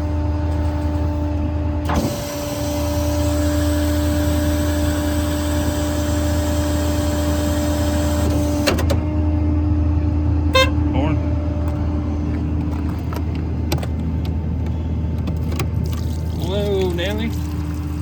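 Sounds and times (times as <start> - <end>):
diesel engine hum: 0.0 - 18.0
hydraulic pump whine: 0.0 - 18.0.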